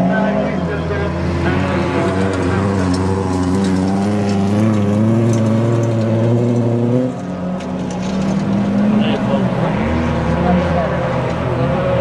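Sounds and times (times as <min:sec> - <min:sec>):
racing car engines revving: 0:00.0 - 0:12.0.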